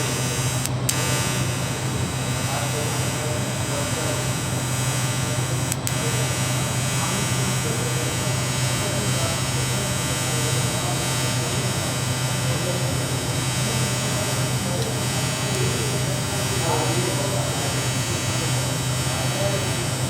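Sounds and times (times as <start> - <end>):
arc welding buzz: 0.0 - 20.0.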